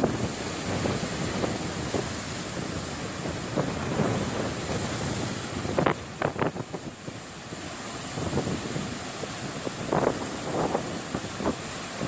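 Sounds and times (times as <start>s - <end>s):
surf breaking on a beach: 0.0s - 12.0s
wind buffeting microphone: 0.0s - 12.0s.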